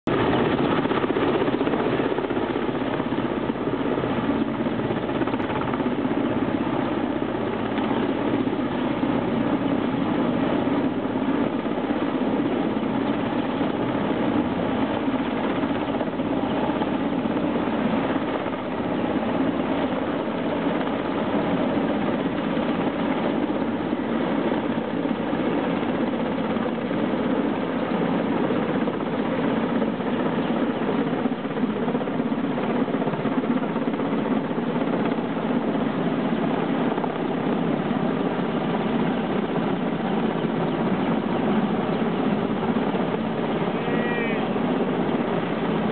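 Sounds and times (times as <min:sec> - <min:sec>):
helicopter hovering overhead: 0:00.0 - 0:45.9.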